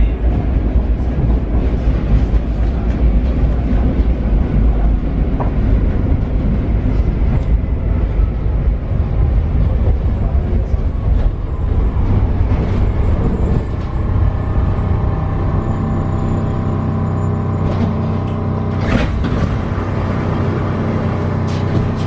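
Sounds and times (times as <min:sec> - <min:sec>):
train rumbling on track: 0:00.0 - 0:22.0.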